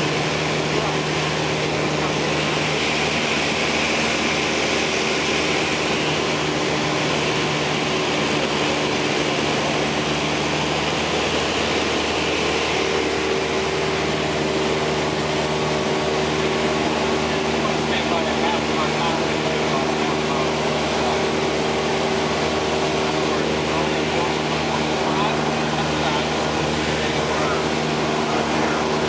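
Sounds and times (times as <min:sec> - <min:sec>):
light airplane engine droning: 0:00.0 - 0:29.0.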